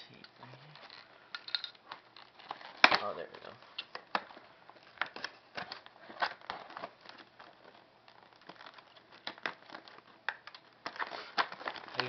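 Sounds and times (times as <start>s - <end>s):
plastic packaging crinkling: 0.6s - 12.0s.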